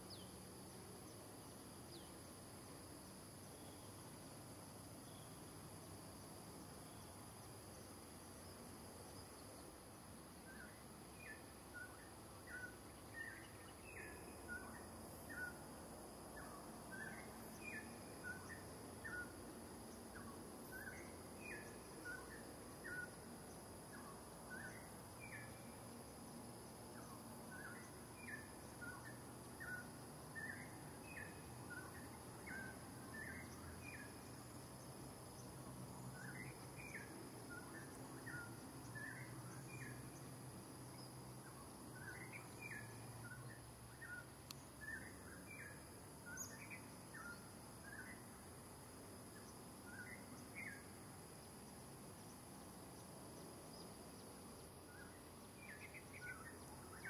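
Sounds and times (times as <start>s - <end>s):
faint chirping calls: 0.0s - 57.0s
high insect drone: 0.0s - 57.0s.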